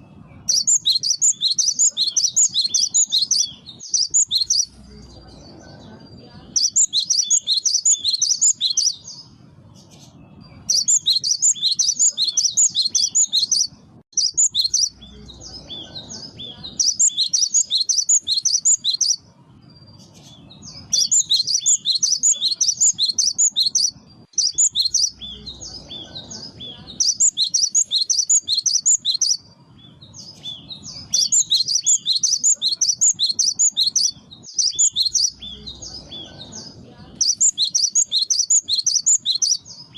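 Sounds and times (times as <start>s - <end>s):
faint low rumble: 0.0s - 32.4s
bird singing high chirps: 0.0s - 39.9s.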